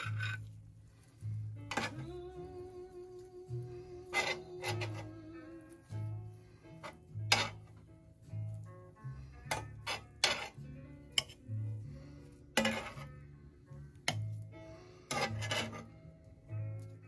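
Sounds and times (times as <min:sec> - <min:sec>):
background music with bass: 0:00.0 - 0:17.0.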